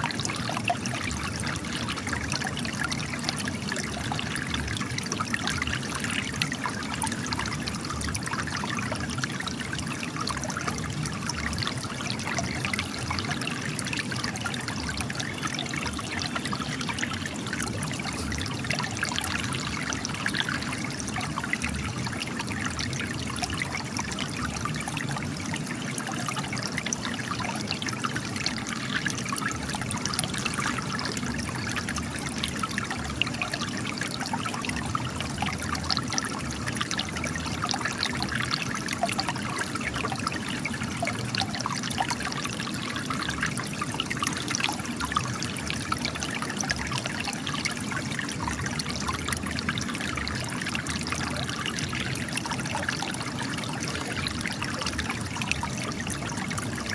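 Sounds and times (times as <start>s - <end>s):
spring water trickling and splashing: 0.0s - 56.9s.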